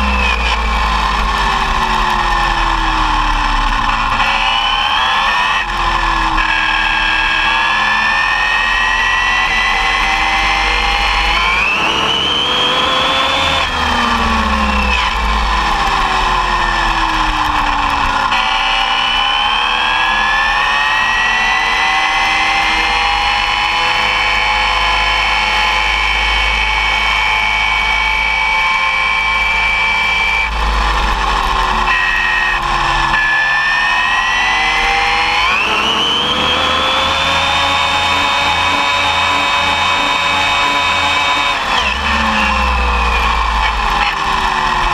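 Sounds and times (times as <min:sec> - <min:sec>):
electric motor and gears whining: 0:00.0 - 0:44.9.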